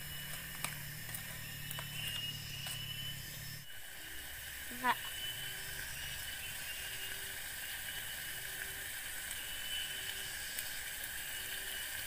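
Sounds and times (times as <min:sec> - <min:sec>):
food sizzling in metal pot: 0:00.0 - 0:12.0.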